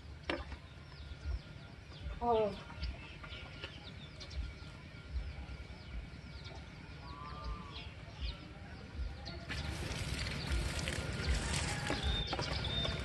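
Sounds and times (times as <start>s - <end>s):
birds chirping falling notes: 0.0s - 13.0s.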